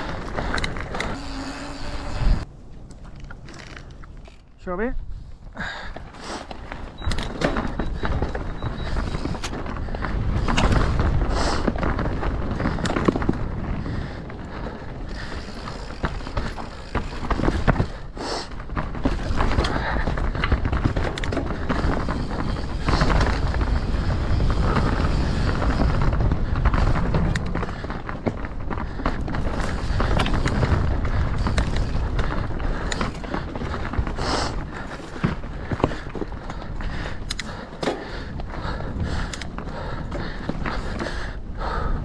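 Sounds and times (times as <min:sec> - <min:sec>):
tyres rolling over dirt and rock: 0:00.0 - 0:04.5, 0:05.5 - 0:42.0
bike chain and frame rattling: 0:00.0 - 0:04.9, 0:05.6 - 0:42.0
wind buffeting microphone: 0:05.0 - 0:42.0.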